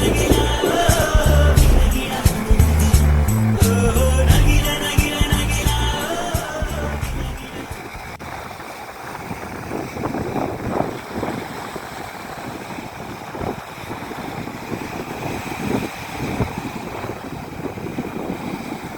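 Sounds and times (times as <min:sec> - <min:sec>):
sea waves washing onto shore: 0:00.0 - 0:18.9
wind buffeting microphone: 0:00.0 - 0:18.9.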